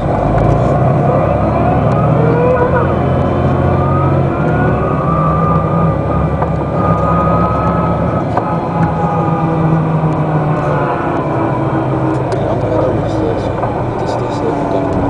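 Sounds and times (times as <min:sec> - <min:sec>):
bus engine running: 0:00.0 - 0:15.0
drivetrain whine: 0:00.0 - 0:15.0.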